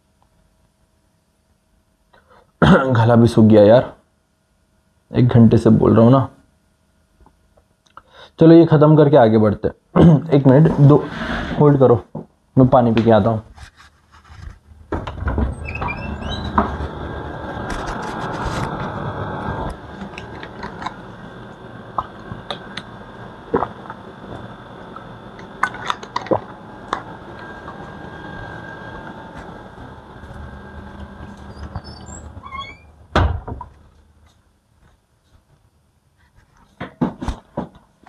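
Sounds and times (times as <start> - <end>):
steady room noise: 0.0 - 38.0.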